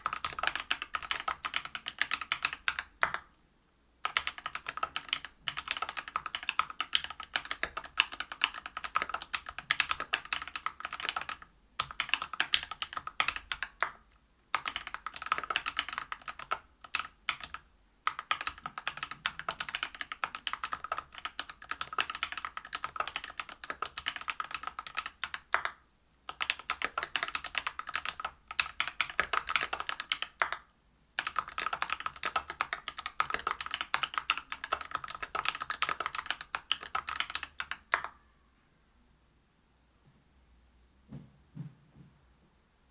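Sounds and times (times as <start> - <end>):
fast typing on mechanical keyboard: 0.0 - 3.2, 4.0 - 30.6, 31.2 - 38.1.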